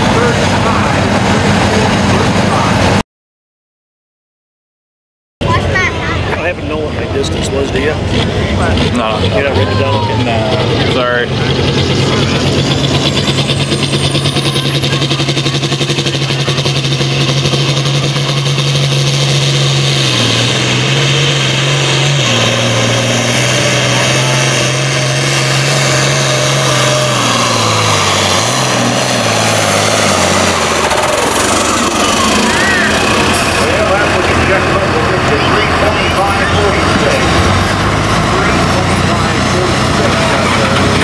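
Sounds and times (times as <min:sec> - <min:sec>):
diesel tractor engine labouring: 0:00.0 - 0:03.0, 0:05.4 - 0:41.0.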